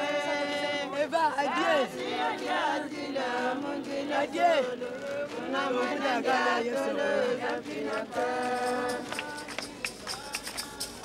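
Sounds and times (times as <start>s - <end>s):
group of voices chanting: 0.0s - 9.5s.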